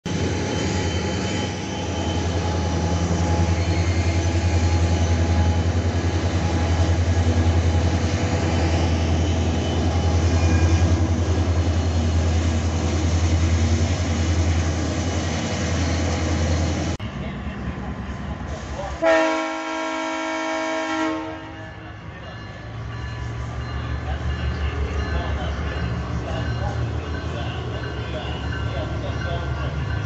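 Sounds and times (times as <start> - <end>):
diesel locomotives droning: 0.0 - 30.0
rumble of train wagons: 0.1 - 30.0.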